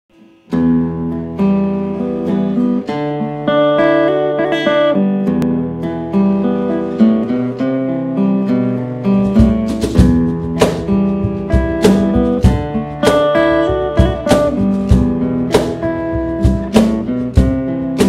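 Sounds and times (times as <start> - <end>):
acoustic guitar strumming chords: 0.1 - 18.0.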